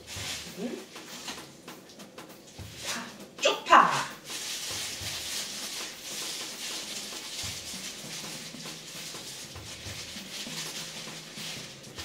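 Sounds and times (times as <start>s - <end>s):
gloved hands rustling and squishing: 0.0s - 12.0s.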